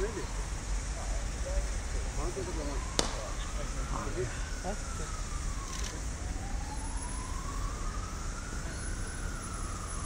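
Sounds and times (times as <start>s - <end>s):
faint siren wailing: 0.0s - 10.0s
steady background noise: 0.0s - 10.0s.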